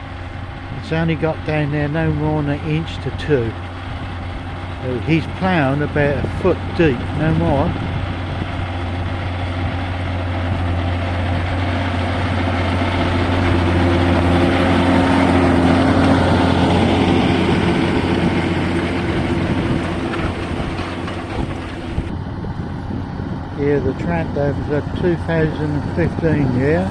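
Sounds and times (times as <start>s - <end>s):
tractor diesel engine: 0.0s - 26.9s.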